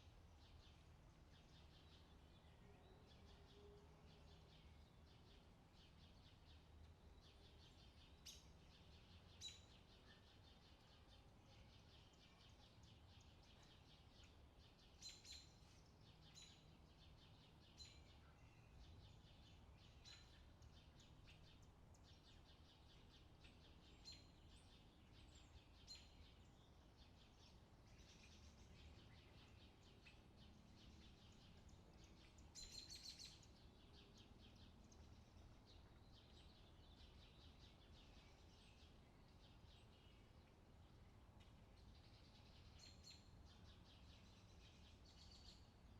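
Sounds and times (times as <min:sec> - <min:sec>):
faint birdsong chirps: 0:00.0 - 0:45.9
low steady background hum: 0:00.0 - 0:45.9.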